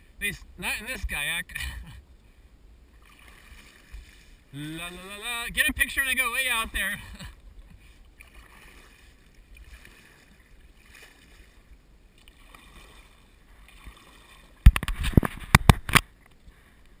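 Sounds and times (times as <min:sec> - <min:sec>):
kayak paddle strokes in water: 0:02.8 - 0:05.0, 0:05.6 - 0:17.0.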